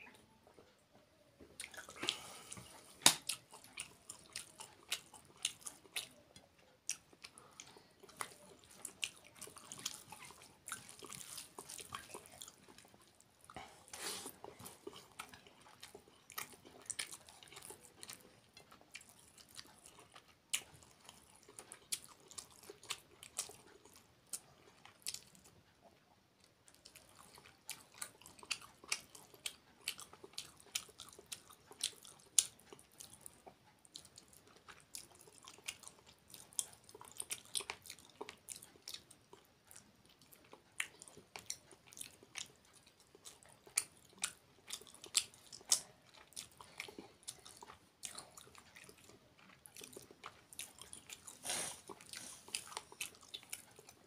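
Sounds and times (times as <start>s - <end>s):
man chewing with mouth clicks: 0.0s - 54.0s.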